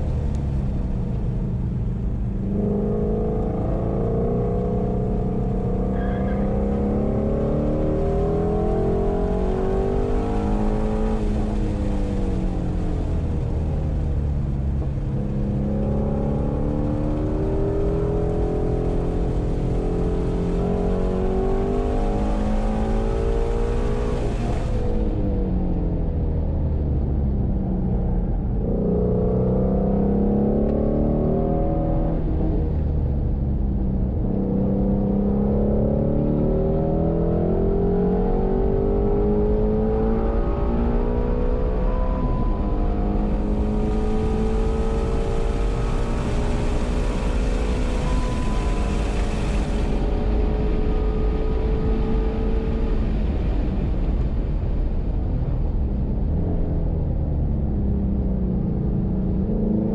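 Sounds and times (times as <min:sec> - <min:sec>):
car engine revving: 0:00.0 - 0:25.2, 0:28.4 - 0:54.8.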